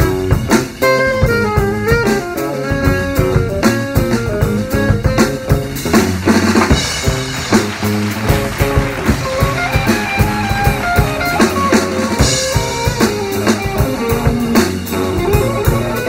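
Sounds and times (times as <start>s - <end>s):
drum kit snare and rimshots: 0.0s - 16.0s
small jazz group playing: 0.0s - 16.0s.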